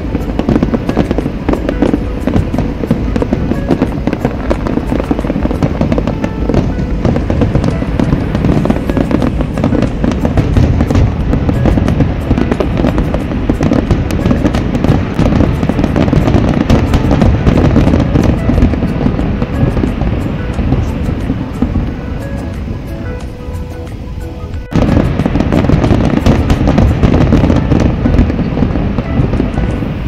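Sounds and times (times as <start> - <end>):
fireworks bangs and crackles: 0.0 - 30.0
music playing: 0.0 - 30.0.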